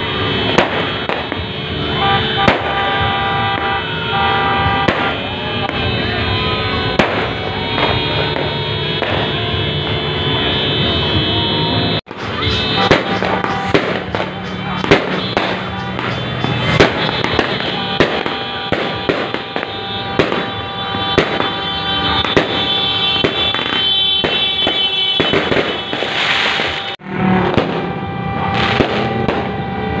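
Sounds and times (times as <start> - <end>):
fireworks crackling: 0.0 - 11.2, 12.0 - 30.0
fireworks banging: 0.0 - 30.0.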